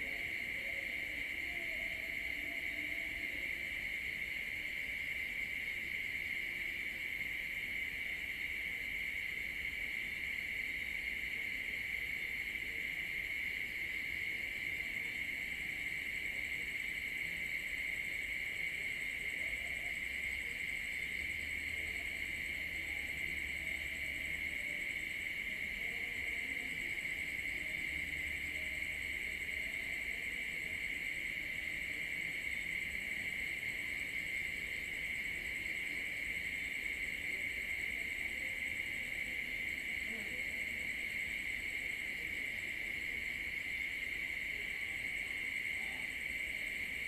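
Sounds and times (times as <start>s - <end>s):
crickets and insects trilling: 0.0s - 47.0s.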